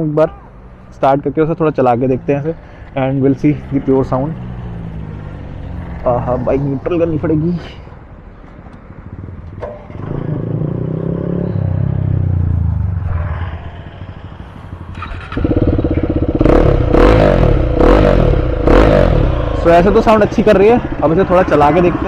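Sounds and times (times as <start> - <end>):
motorcycle engine starting and revving: 1.6 - 7.5, 8.2 - 22.0.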